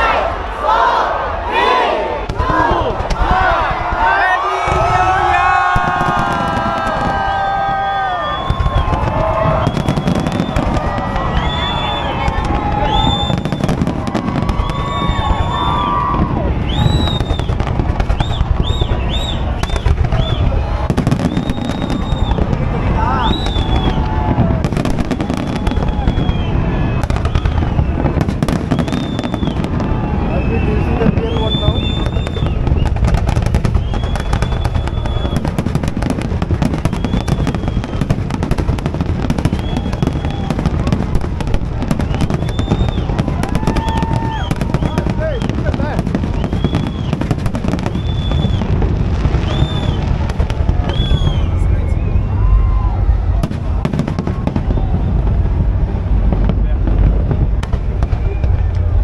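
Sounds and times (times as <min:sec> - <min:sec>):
fireworks bangs and crackling: 0:02.1 - 0:59.0
low rumble: 0:02.2 - 0:36.8, 0:37.6 - 0:59.0
firework whistles: 0:04.6 - 0:55.4.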